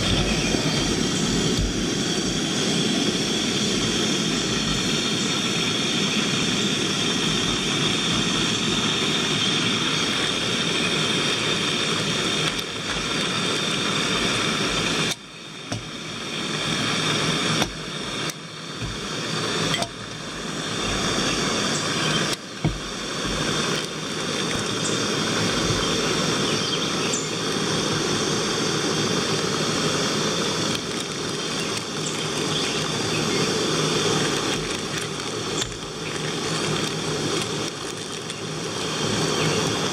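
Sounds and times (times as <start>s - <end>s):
gas stove hissing: 0.0s - 39.9s.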